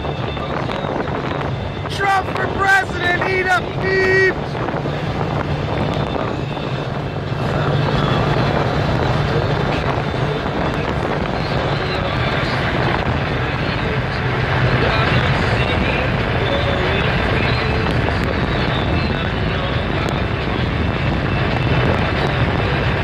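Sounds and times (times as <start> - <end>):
car road noise: 0.0 - 23.0
low car drone: 0.0 - 23.0
wind rushing over microphone: 0.0 - 23.0.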